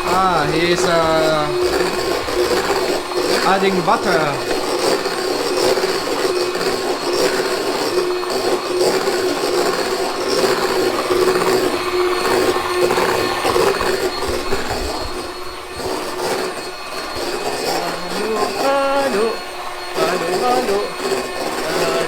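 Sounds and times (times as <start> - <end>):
electric kitchen mixer running: 0.0 - 22.0.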